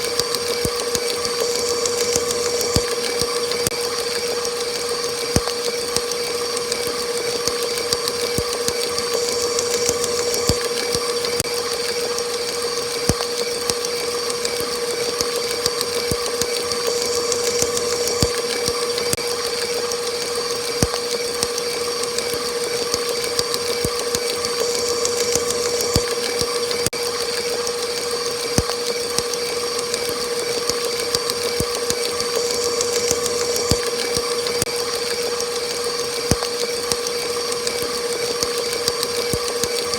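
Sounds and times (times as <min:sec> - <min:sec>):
electric mixer motor whining: 0:00.0 - 0:39.9.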